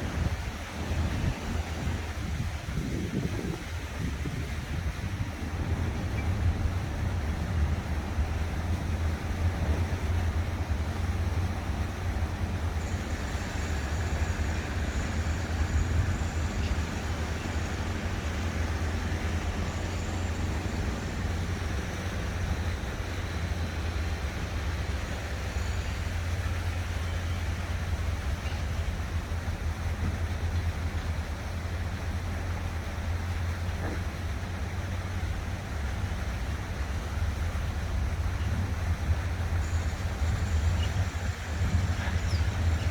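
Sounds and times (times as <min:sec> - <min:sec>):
water fountains splashing: 0:00.0 - 0:42.9.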